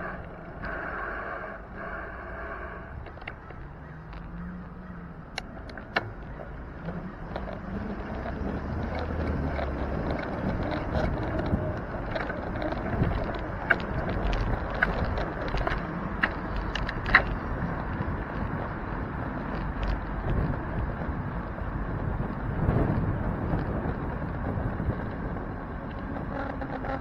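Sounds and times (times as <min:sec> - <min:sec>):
car engine and tyre noise: 0:00.0 - 0:27.0
city street traffic: 0:00.0 - 0:27.0
sharp clicks and rattles: 0:00.0 - 0:27.0.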